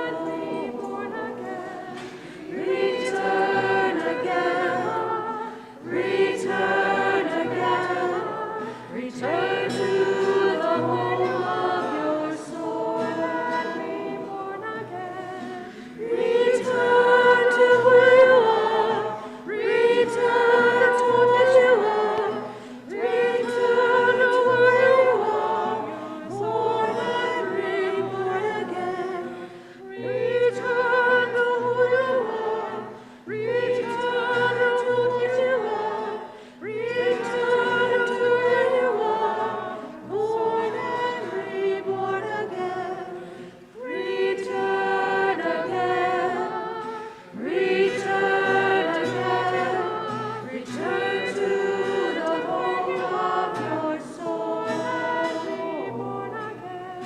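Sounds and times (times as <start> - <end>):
group singing a slow hymn: 0.0 - 57.0.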